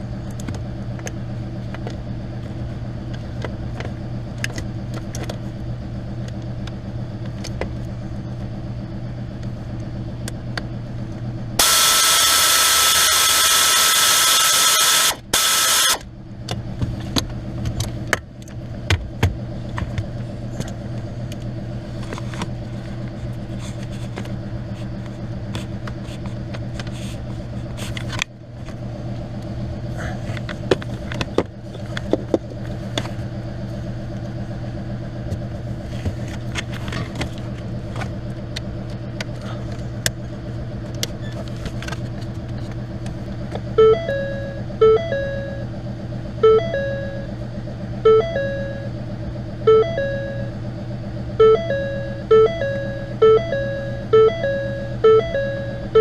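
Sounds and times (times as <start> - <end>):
car engine humming: 0.0 - 56.0.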